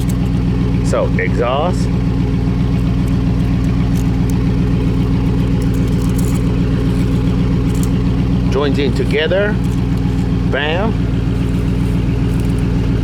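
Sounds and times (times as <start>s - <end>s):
truck engine idling unmuffled: 0.0s - 13.0s.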